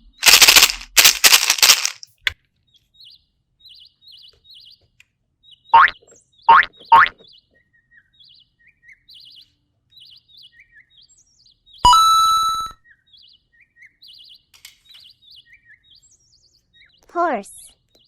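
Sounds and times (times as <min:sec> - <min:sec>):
bird-like chirps and trills: 0:02.6 - 0:18.0.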